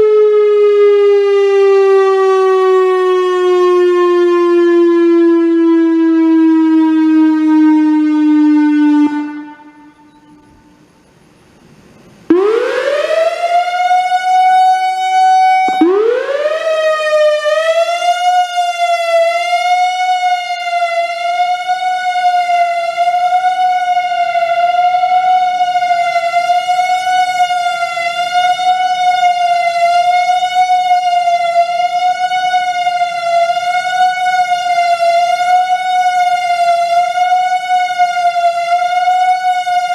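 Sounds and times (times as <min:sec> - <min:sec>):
electronic warning siren: 0:00.0 - 0:11.3, 0:12.0 - 0:39.9.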